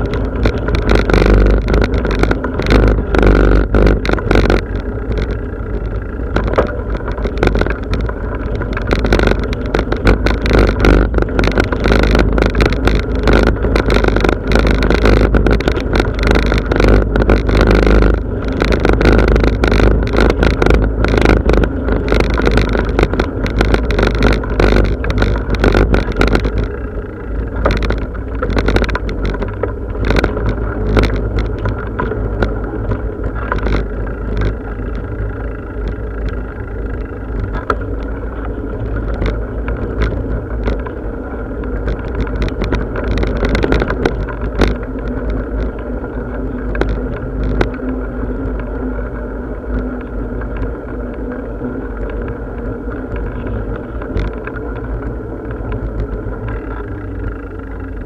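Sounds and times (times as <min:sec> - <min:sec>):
bicycle rolling rumble: 0:00.0 - 0:58.0
clicks and rattles from bumps: 0:00.0 - 0:58.0.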